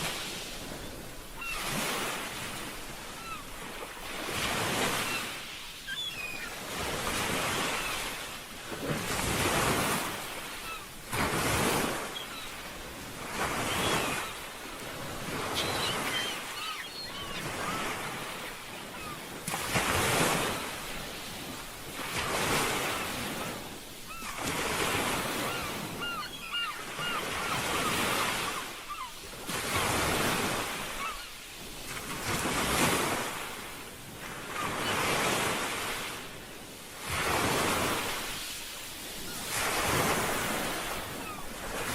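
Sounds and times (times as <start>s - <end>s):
ocean waves washing ashore: 0.0s - 41.9s.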